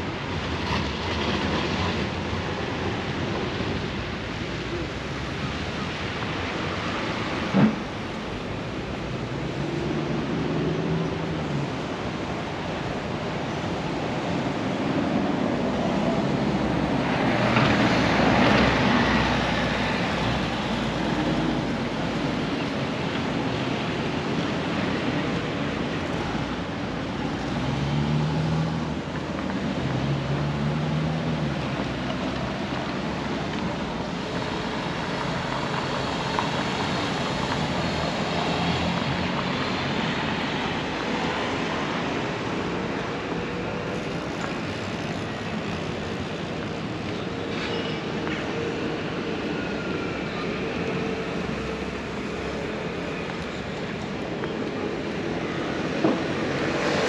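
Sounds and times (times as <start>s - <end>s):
traffic noise: 0.0s - 57.0s.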